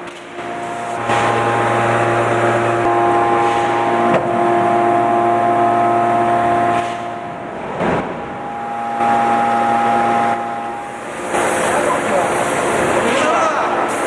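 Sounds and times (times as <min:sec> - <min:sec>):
hydraulic machine humming: 0:00.0 - 0:14.0.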